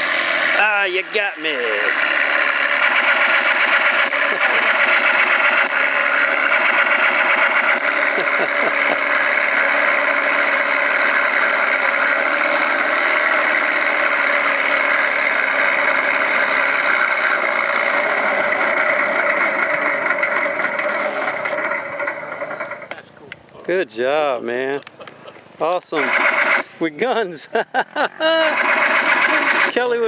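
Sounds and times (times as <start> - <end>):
model aircraft engine running: 0.0 - 23.0, 25.7 - 30.0.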